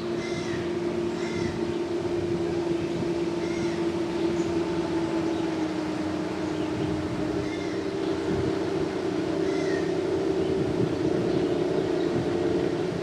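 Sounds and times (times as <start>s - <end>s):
bird calls: 0.0s - 12.9s
boat motor droning: 0.0s - 13.0s.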